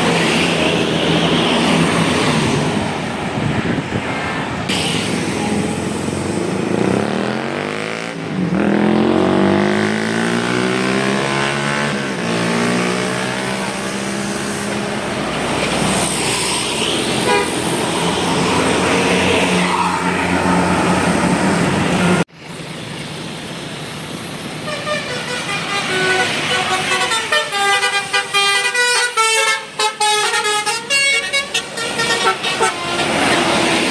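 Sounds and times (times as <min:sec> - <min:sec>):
bus engine passing by: 0:00.0 - 0:28.1, 0:31.6 - 0:33.9.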